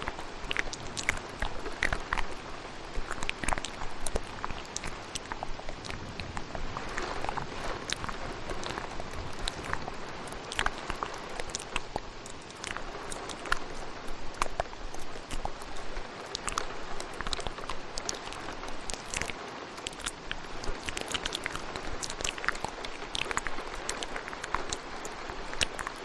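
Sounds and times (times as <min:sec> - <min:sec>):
mouth clicks: 0:00.0 - 0:26.0
steady rain: 0:00.0 - 0:26.0.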